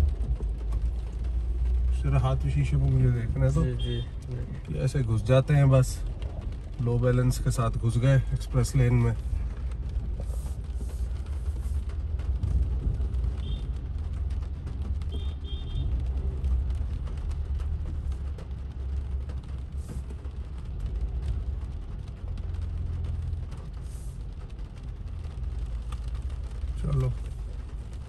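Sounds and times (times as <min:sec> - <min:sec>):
car engine rumble: 0:00.0 - 0:28.0
rain ticking on car roof: 0:00.0 - 0:28.0.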